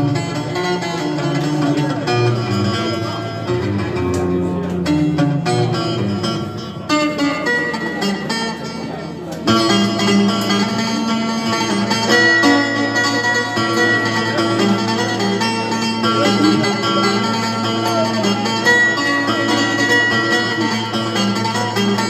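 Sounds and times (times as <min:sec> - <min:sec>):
plucked string instruments melody: 0:00.0 - 0:22.0.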